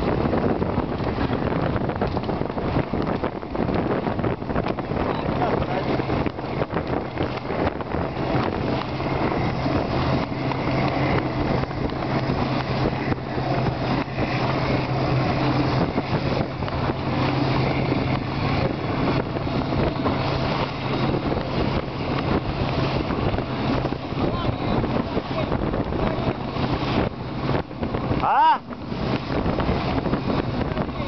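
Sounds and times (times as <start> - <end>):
outboard motor running: 0.0 - 31.0
water rushing past hull: 0.0 - 31.0
wind buffeting microphone: 0.0 - 31.0.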